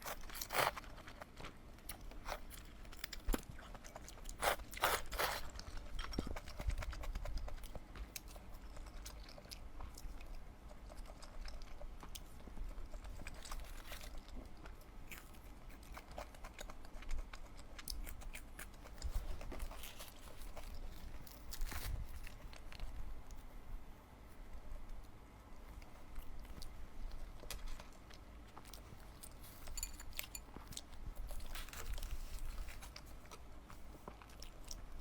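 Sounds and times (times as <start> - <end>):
person chewing and eating: 0.0 - 23.5, 24.8 - 35.0.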